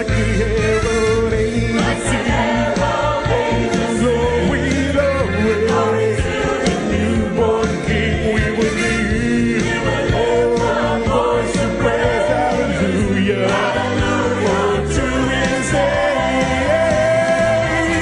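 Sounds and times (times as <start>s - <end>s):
choir singing gospel: 0.0s - 18.0s
live band bass and drums: 0.0s - 18.0s.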